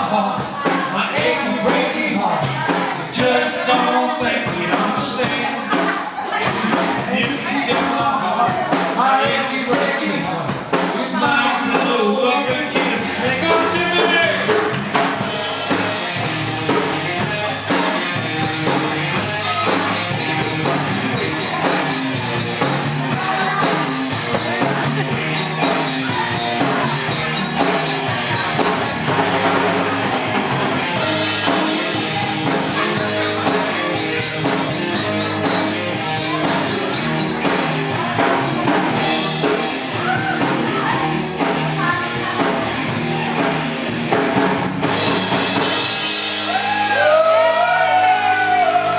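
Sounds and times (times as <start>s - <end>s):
person singing: 0.0s - 14.8s, 17.2s - 29.6s, 30.9s - 43.6s
band playing rock music: 0.0s - 48.9s.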